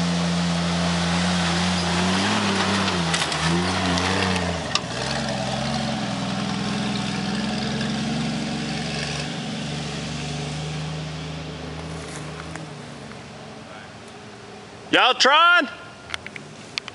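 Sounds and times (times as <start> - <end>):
off-road vehicle engine: 0.0 - 16.9.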